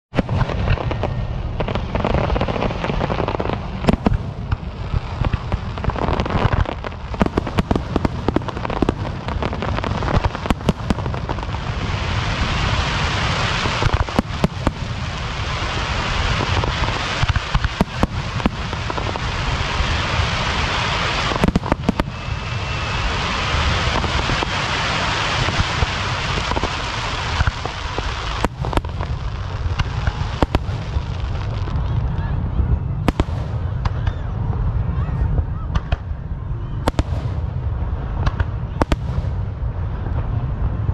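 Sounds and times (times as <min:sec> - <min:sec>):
fireworks crackling: 0:00.0 - 0:40.9
fireworks bangs: 0:00.1 - 0:40.9
low rumble: 0:00.1 - 0:40.9.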